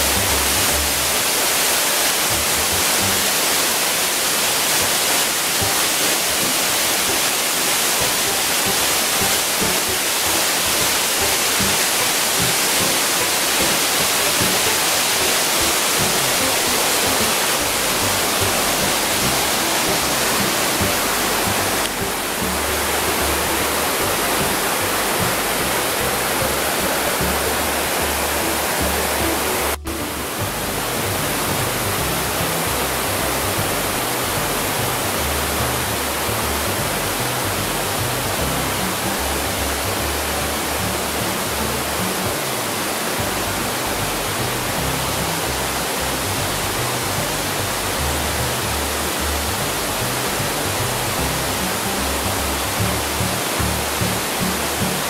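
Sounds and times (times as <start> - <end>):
music: 0.0 - 55.0
waterfall rushing: 0.0 - 55.0.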